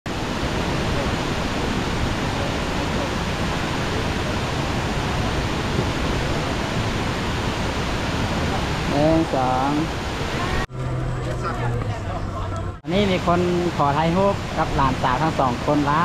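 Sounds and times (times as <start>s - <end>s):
waterfall rushing: 0.1s - 10.7s, 12.9s - 16.0s.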